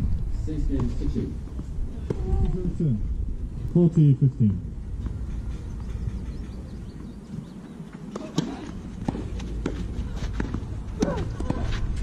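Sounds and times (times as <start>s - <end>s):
outdoor background murmur: 0.0s - 12.0s.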